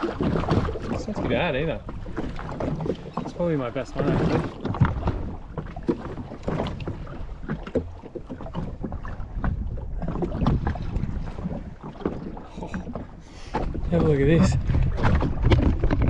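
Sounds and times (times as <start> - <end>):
water slapping hull: 0.0 - 16.0
wind buffeting microphone: 0.0 - 16.0.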